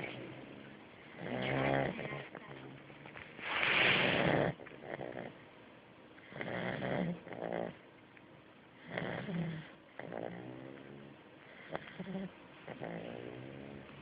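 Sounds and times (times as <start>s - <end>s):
puppy snoring: 0.0s - 5.5s, 6.2s - 7.8s, 8.8s - 14.0s.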